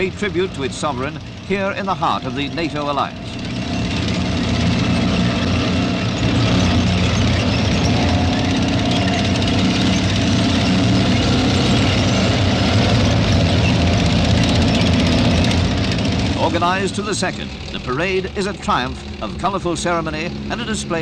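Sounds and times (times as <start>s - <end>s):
heavy tracked vehicle engines: 0.0s - 21.0s.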